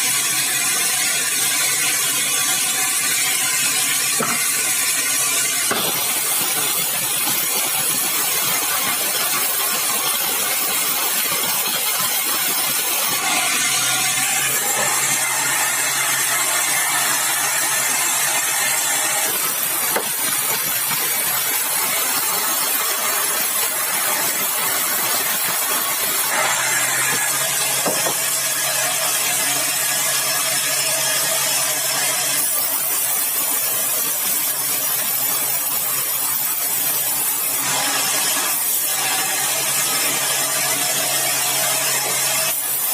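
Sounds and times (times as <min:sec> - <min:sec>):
running motor: 0:00.0 - 0:42.9
saw blade cutting log: 0:00.0 - 0:42.9.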